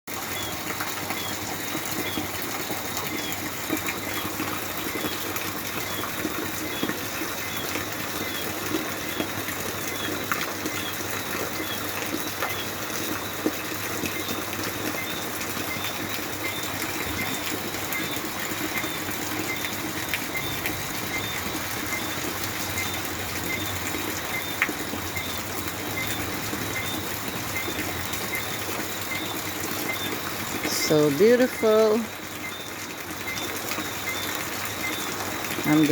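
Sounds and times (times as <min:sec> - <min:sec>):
steady rain: 0:00.1 - 0:35.9.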